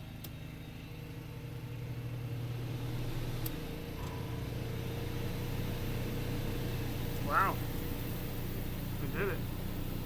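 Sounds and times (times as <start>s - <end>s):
generator running: 0.0s - 10.0s.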